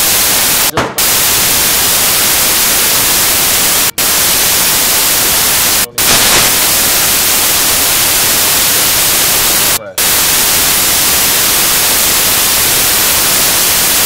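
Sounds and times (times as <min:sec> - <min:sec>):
loud static hiss: 0:00.0 - 0:14.0.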